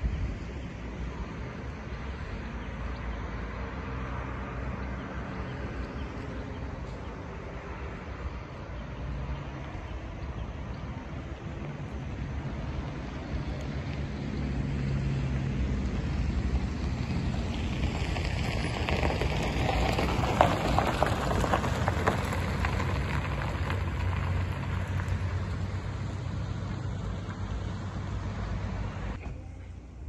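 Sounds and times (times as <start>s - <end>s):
low engine hum: 0.0s - 30.0s
road and wind noise: 0.0s - 30.0s.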